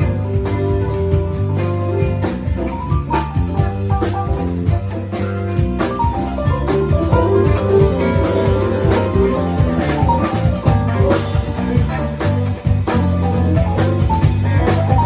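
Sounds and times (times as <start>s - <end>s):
band playing instrumental music: 0.0s - 15.0s.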